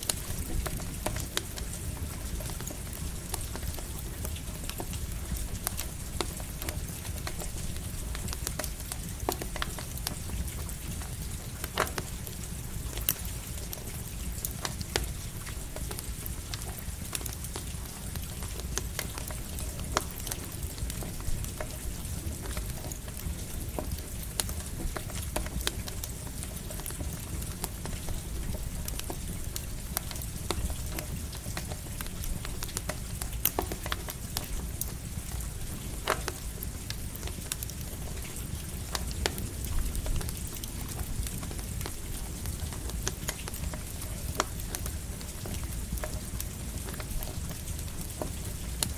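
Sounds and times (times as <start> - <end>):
campfire crackling and popping: 0.0 - 48.9
light rain pattering: 0.0 - 48.9.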